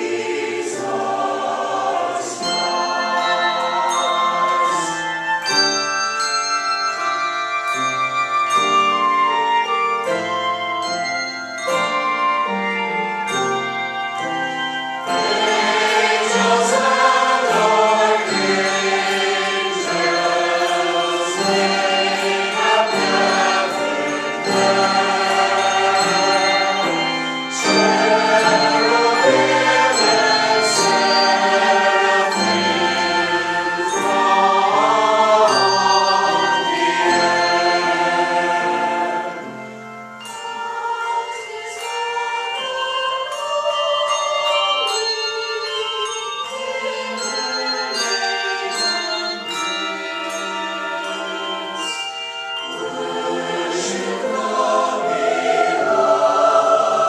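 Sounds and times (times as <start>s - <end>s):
choir singing: 0.0s - 6.5s, 13.2s - 57.0s
instrumental accompaniment: 0.0s - 57.0s.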